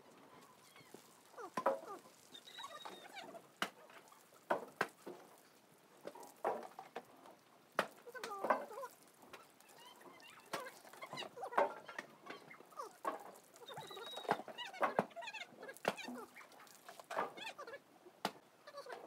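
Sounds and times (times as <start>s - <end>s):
water splashing on ground: 0.4s - 17.4s.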